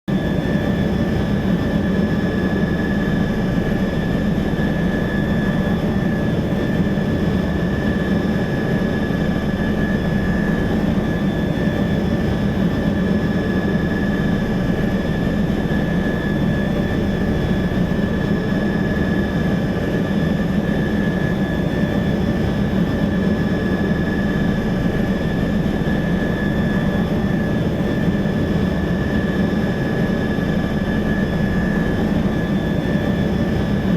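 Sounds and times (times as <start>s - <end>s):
helicopter engine and rotor drone: 0.1s - 33.9s
high turbine whine: 0.1s - 33.9s.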